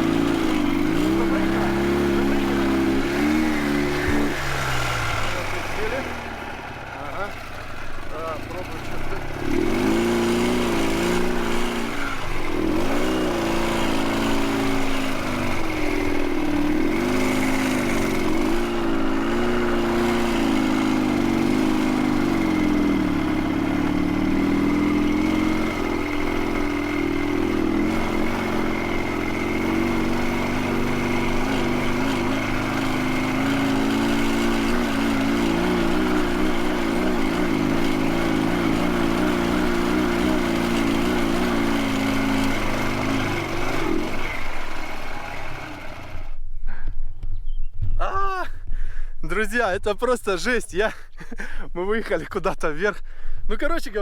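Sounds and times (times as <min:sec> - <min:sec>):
motorcycle engine under heavy load: 0:00.0 - 0:47.2.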